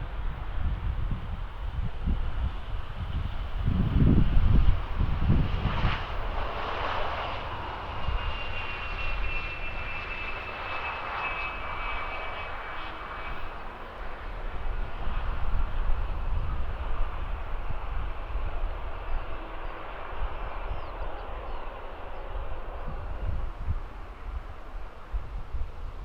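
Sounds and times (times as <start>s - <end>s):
high engine whine: 0.0s - 26.0s
jet engines running: 0.0s - 26.0s.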